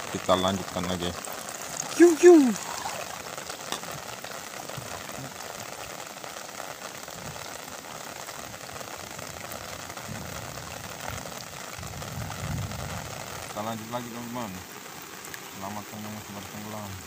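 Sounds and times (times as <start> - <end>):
heavy rain on water: 0.0 - 17.0.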